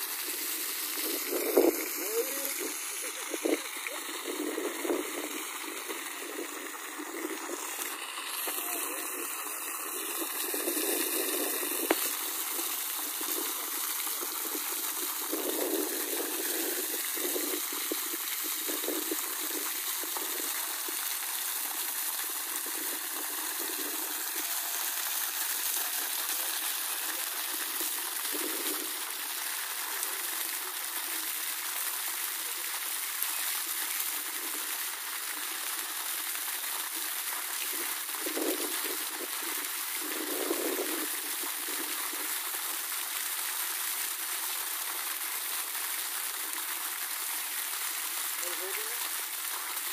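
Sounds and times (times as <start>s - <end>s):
water gushing from a pipe: 0.0s - 49.9s.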